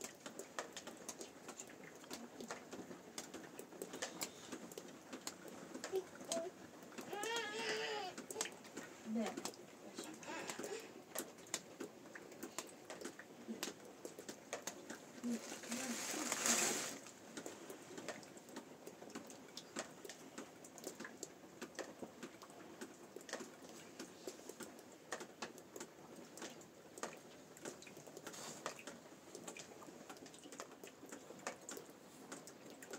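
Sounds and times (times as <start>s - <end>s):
faint irregular clicks: 0.0s - 16.1s, 17.0s - 32.9s
low hiss: 0.0s - 32.7s.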